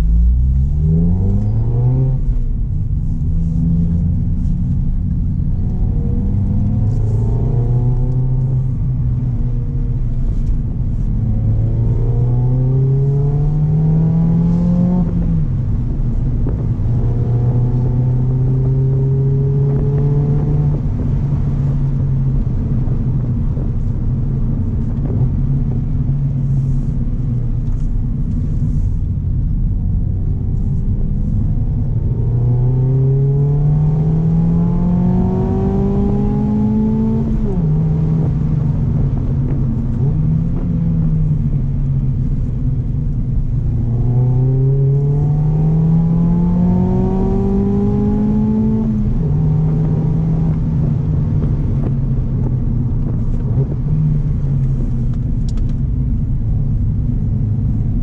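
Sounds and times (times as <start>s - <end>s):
car engine revving: 0.0s - 58.0s
low road rumble: 0.0s - 58.0s.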